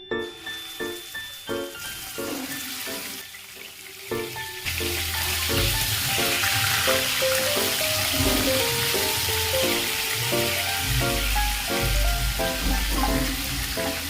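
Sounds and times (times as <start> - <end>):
piano-like background music: 0.0 - 14.0
steady hiss: 0.0 - 14.0.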